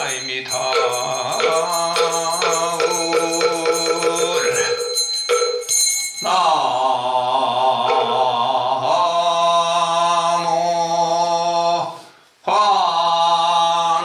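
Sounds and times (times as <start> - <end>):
monk chanting: 0.0 - 5.0, 6.2 - 14.0.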